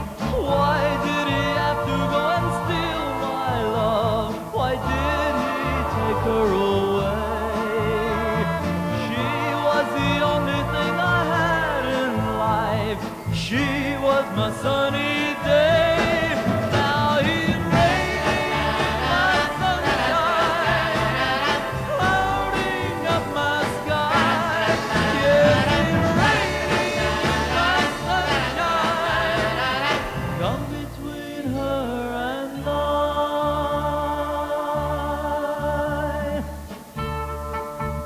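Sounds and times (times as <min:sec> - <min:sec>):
instrumental pop ballad: 0:00.0 - 0:38.0.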